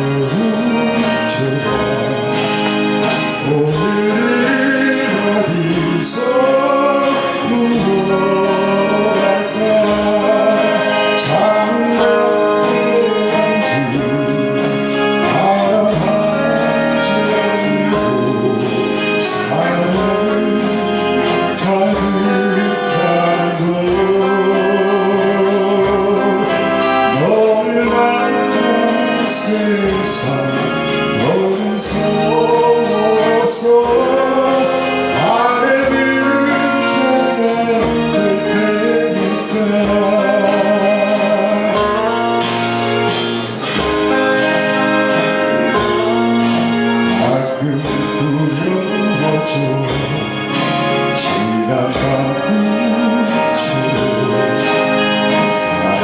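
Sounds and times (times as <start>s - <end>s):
drums with steady beat: 0.0s - 56.0s
keyboard or organ: 0.0s - 56.0s
person singing lead vocal: 0.0s - 56.0s.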